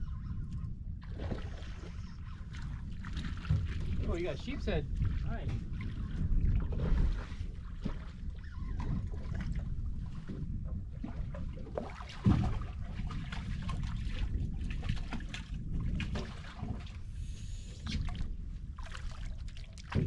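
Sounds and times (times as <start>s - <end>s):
wind rumbling on microphone: 0.0s - 20.0s
water slapping against boat: 0.2s - 20.0s.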